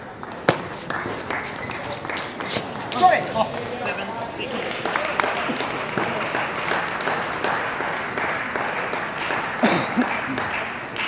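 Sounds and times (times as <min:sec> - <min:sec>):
applause in large hall: 0:00.0 - 0:11.0.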